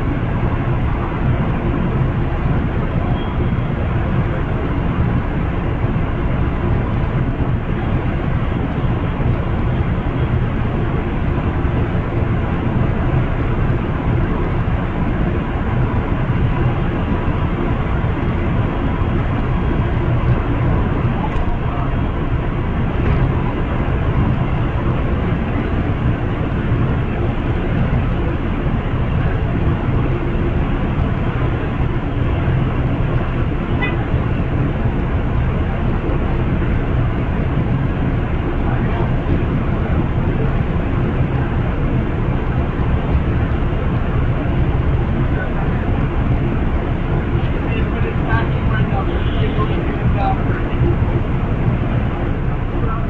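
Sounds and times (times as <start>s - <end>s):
diesel locomotives idling: 0.0s - 53.0s.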